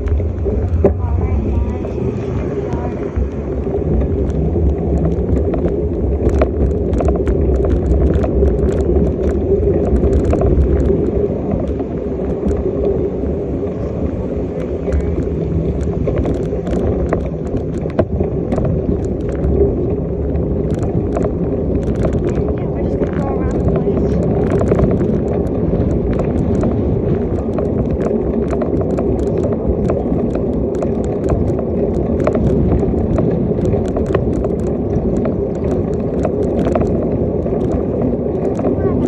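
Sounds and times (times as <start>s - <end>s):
bicycle road noise: 0.0s - 39.0s
small clicks and rattles: 0.0s - 39.0s
wind rumbling on microphone: 0.0s - 39.0s.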